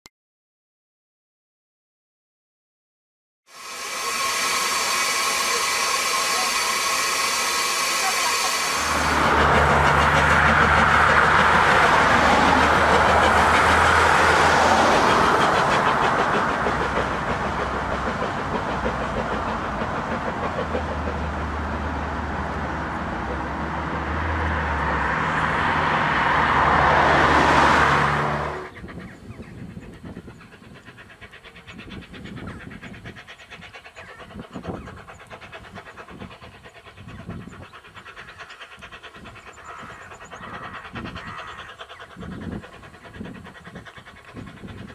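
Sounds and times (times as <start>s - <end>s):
road traffic passing: 3.5s - 44.9s
steam train working: 3.5s - 44.9s.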